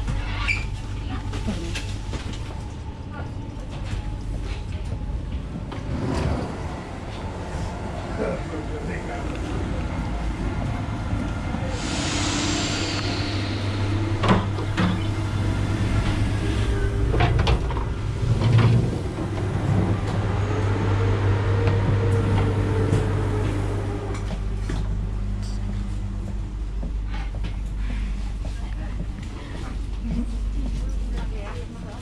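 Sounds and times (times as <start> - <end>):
train coach hum: 0.0 - 32.0.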